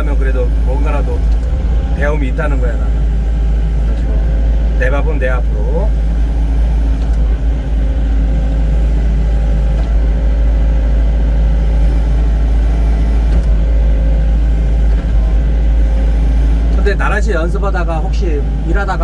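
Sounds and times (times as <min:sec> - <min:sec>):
excavator diesel engine droning: 0:00.0 - 0:19.0.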